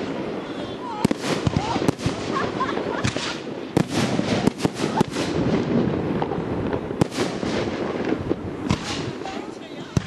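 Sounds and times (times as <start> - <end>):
crackling hiss: 0.0 - 10.0
fireworks bangs: 0.0 - 10.0.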